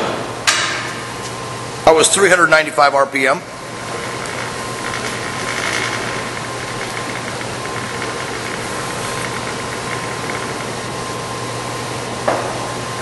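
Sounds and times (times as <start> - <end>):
lathe humming with thin whine: 1.3 - 13.0.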